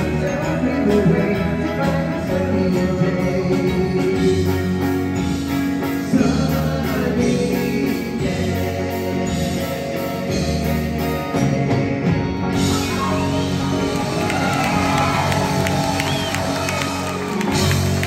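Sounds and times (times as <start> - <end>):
person singing with harmony vocals: 0.0 - 4.8, 5.8 - 16.2
live band playing pop song: 0.0 - 18.0.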